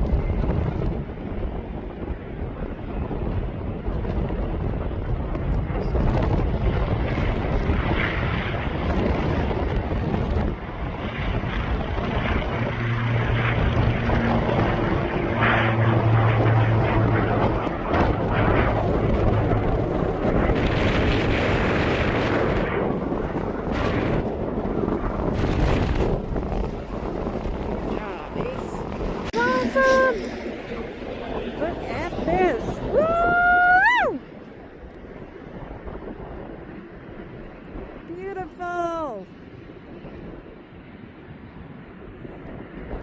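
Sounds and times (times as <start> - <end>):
airplane engine hum: 0.0 - 38.6
wind buffeting microphone: 0.0 - 43.0.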